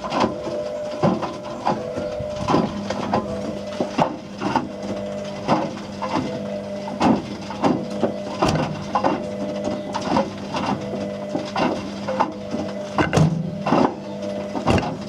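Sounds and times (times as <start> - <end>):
objects clunking in drum: 0.0 - 15.0
washing machine motor hum: 0.0 - 15.0.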